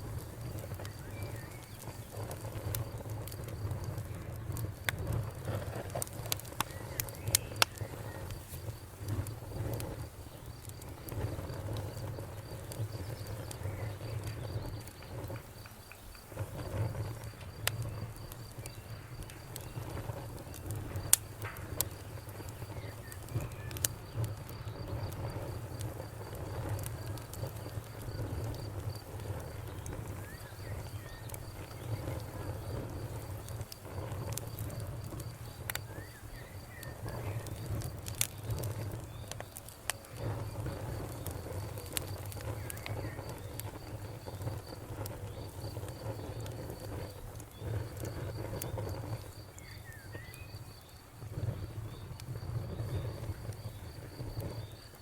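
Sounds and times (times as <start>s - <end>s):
wood fire crackling: 0.0s - 55.0s
cricket chirping: 6.5s - 55.0s.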